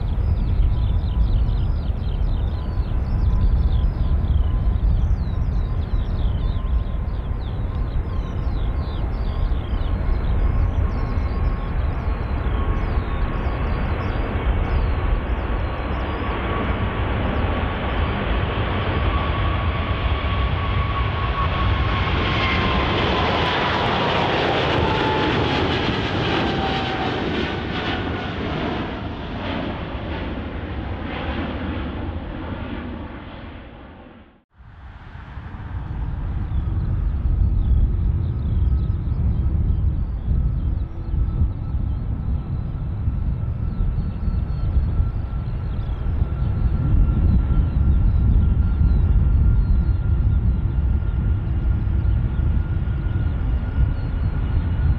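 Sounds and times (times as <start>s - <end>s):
jet engines roaring with fan whine: 0.0s - 54.9s.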